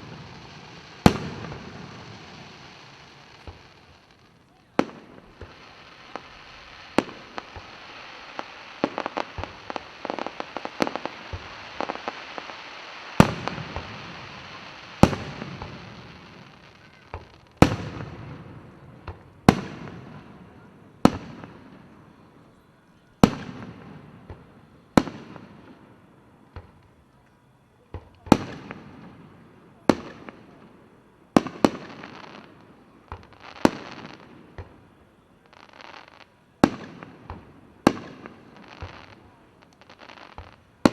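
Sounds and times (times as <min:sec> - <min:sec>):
fireworks bursting with bangs: 0:00.0 - 0:40.9
fireworks crackling: 0:00.0 - 0:40.9.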